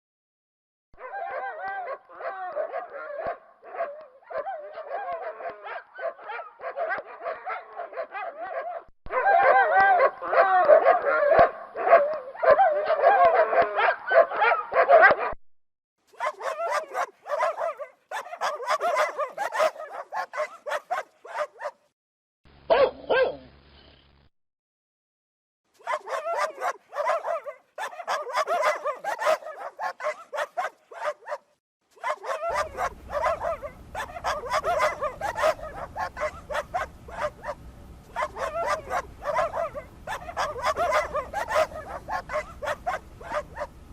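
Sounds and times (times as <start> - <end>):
dogs barking rapidly: 1.0 - 15.4, 16.1 - 21.9, 22.7 - 23.5, 25.8 - 43.8.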